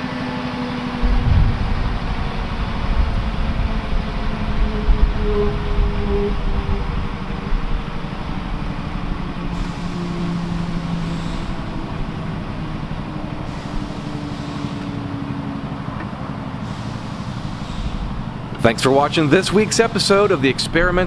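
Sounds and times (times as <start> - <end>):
helicopter turbine and rotors: 0.0 - 21.0.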